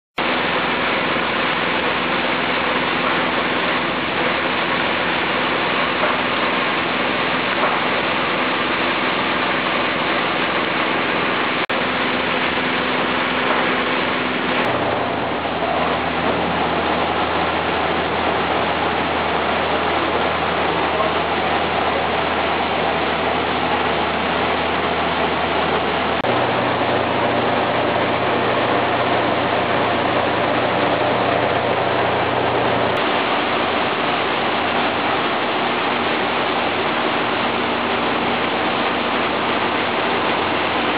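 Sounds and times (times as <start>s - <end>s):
coffee dryer humming: 0.2s - 40.9s.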